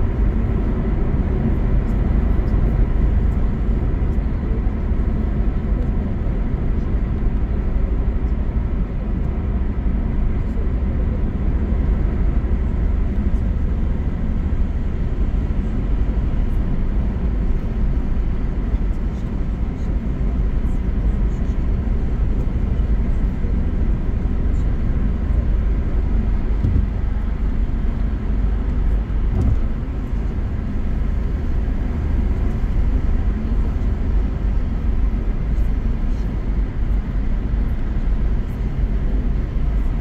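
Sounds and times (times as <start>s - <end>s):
road and tyre noise: 0.0s - 40.0s.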